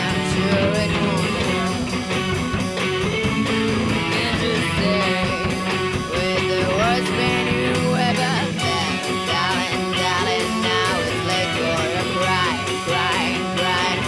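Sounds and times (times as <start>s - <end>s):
guitar lead bending in pitch: 0.0s - 14.0s
rock band music: 0.0s - 14.0s.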